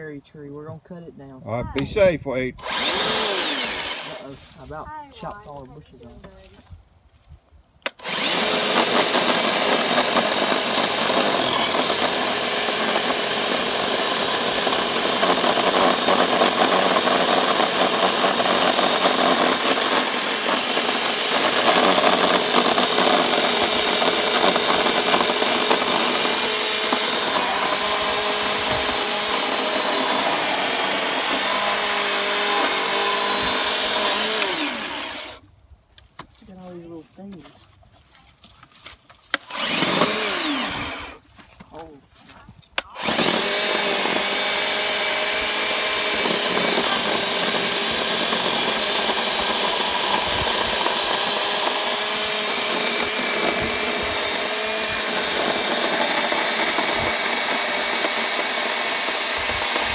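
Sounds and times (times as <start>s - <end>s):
chainsaw cutting wood: 2.6s - 5.6s, 7.8s - 35.4s, 39.3s - 41.4s, 42.8s - 59.9s.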